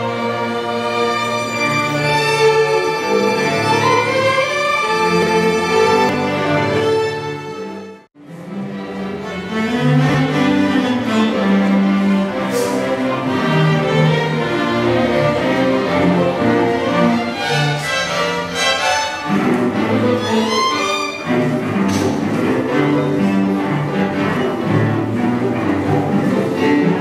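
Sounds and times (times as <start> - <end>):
string orchestra playing: 0.0 - 27.0.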